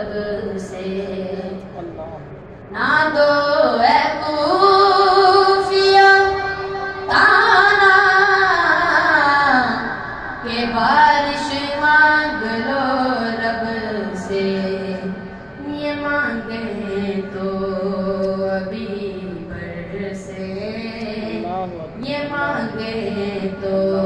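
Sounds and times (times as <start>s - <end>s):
boy singing unaccompanied: 2.8s - 24.0s.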